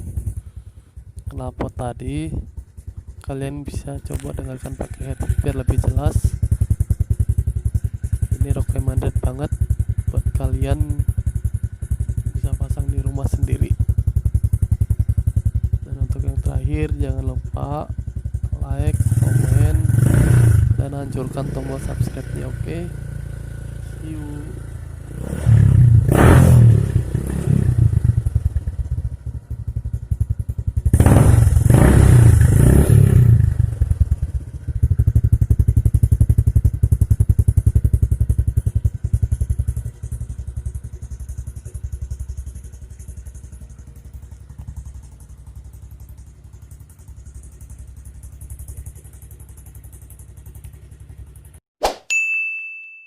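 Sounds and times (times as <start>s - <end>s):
motorcycle engine idling and revving: 0.0s - 51.7s.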